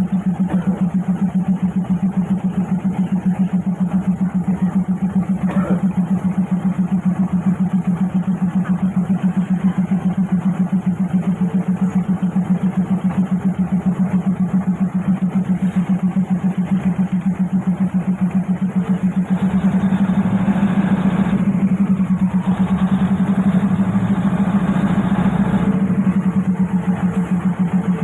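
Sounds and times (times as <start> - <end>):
diesel railcar engine humming: 0.0 - 28.0.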